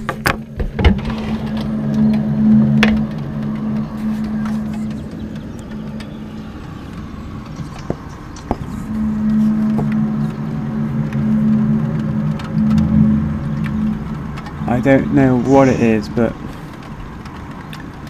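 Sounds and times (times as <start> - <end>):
low drone of steady tones: 0.0 - 18.0.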